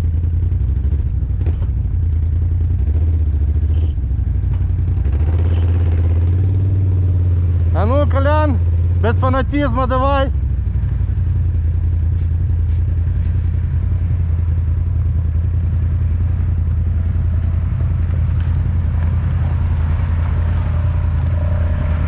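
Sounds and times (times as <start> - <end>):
quad bike engine idling: 0.0 - 22.0.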